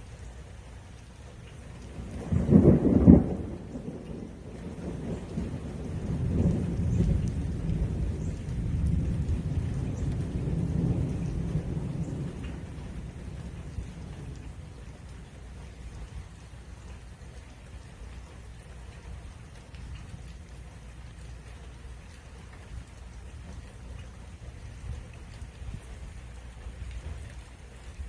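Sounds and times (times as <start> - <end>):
rain falling: 0.0 - 28.0
thunder rumbling: 1.8 - 28.0.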